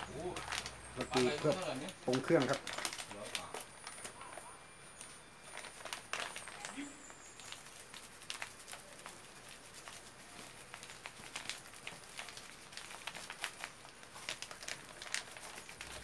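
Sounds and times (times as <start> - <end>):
plastic sachet crinkling: 0.0 - 16.0.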